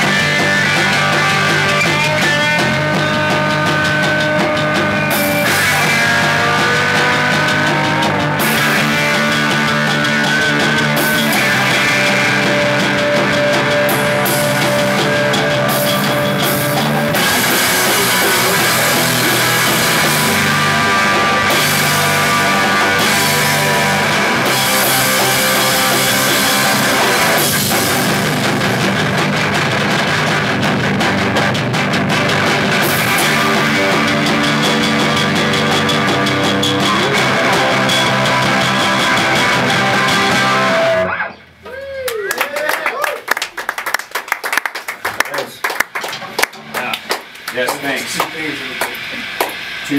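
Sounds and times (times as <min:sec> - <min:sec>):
drum kit: 0:00.0 - 0:41.2, 0:45.0 - 0:49.9
electric guitar: 0:00.0 - 0:42.2.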